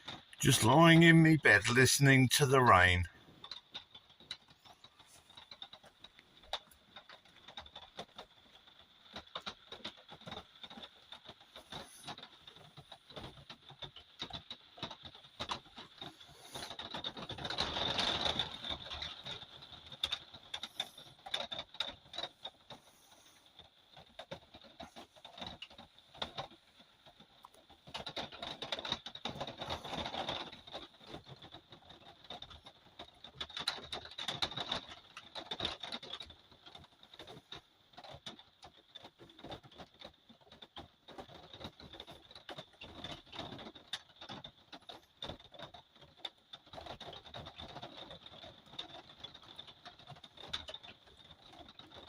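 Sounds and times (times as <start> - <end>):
rain pattering on a roof: 0.0 - 52.0.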